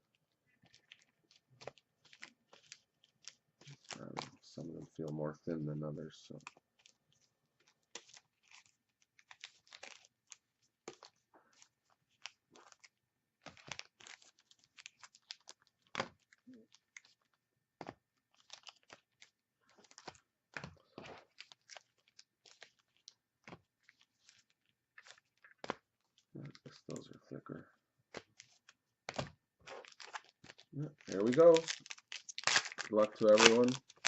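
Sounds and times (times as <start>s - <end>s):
foil wrappers crinkling: 0.5s - 4.1s, 6.5s - 17.4s, 18.2s - 27.0s, 28.1s - 34.0s.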